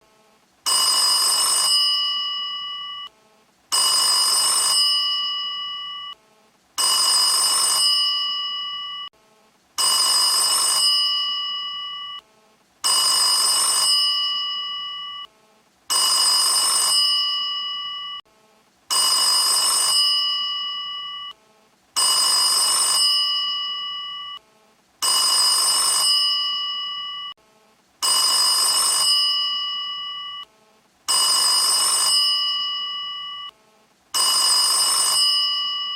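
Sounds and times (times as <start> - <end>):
old telephone bell ringtone: 0.7 - 3.1, 3.7 - 6.2, 6.8 - 9.1, 9.8 - 18.2, 18.9 - 21.4, 22.0 - 24.4, 25.0 - 27.4, 28.0 - 30.5, 31.1 - 33.6, 34.2 - 35.9.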